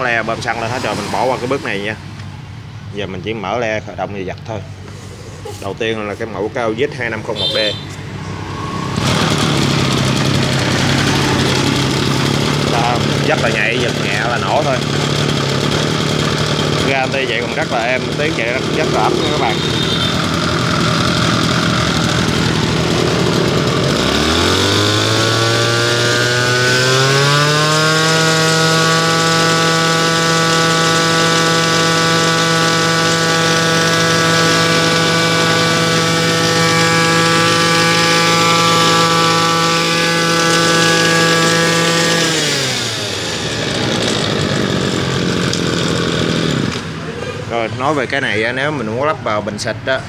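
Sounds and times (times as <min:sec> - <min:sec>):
brush-cutter engine revving: 0:00.0 - 0:02.4, 0:04.7 - 0:48.9.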